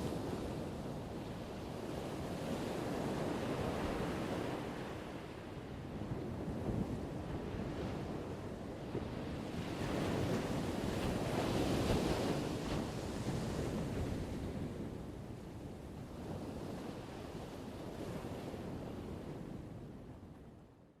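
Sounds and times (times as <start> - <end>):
wind rumbling on microphone: 0.0 - 20.6.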